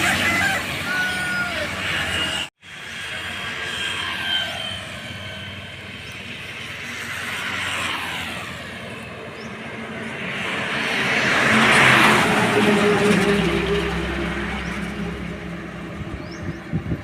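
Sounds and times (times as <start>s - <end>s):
traffic passing: 0.0s - 17.0s.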